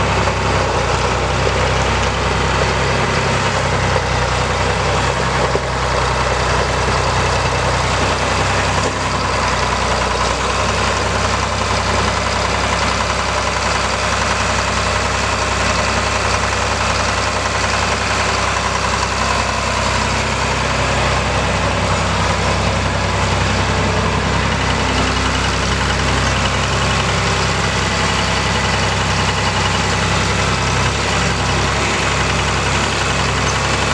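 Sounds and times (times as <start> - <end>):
diesel tractor engine running: 0.0 - 33.9.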